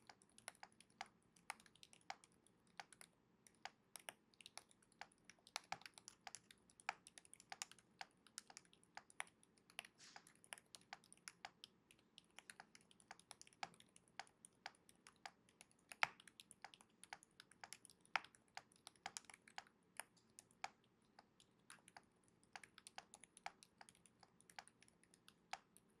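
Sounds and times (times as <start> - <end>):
soft keyboard typing: 0.0 - 26.0.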